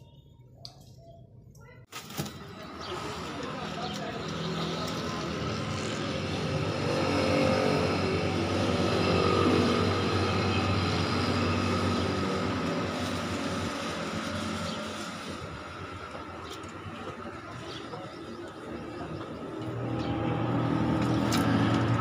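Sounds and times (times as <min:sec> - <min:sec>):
engine running: 0:02.2 - 0:22.0.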